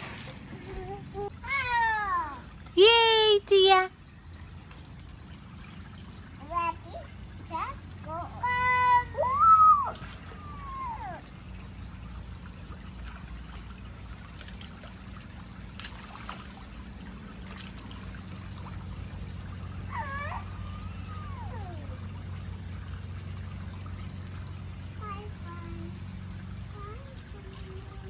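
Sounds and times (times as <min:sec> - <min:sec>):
water splashing into pool: 0:00.0 - 0:28.0.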